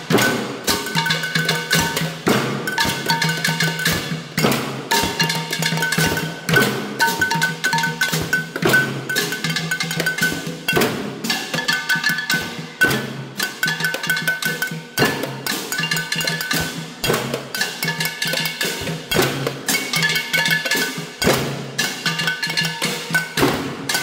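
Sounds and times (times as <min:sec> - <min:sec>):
sticks beating pots and pans: 0:00.0 - 0:24.0.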